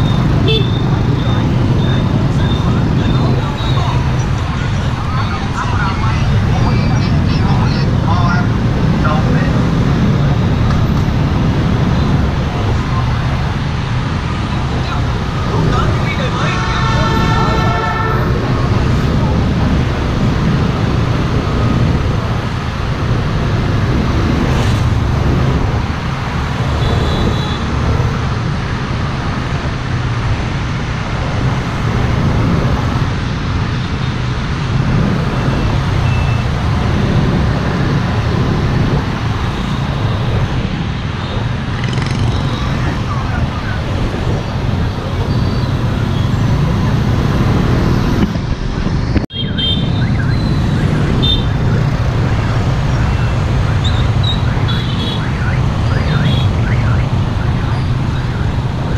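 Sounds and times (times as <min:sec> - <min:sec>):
road and wind noise: 0:00.0 - 0:58.9.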